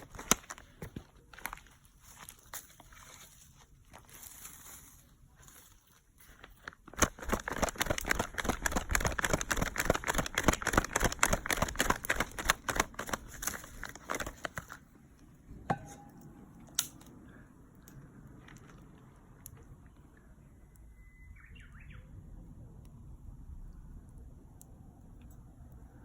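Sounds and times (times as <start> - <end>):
bonfire crackling and popping: 0.0 - 21.0, 22.6 - 26.0.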